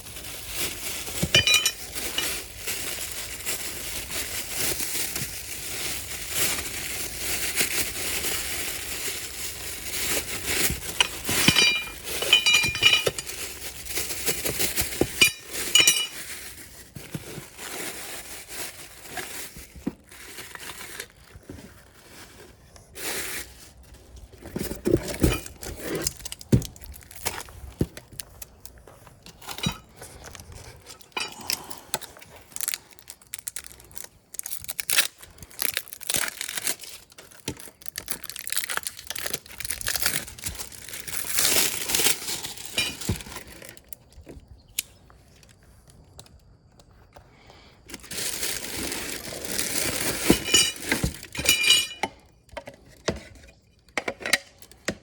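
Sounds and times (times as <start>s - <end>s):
packaging crinkling and tearing: 0.0s - 47.2s, 47.8s - 51.4s.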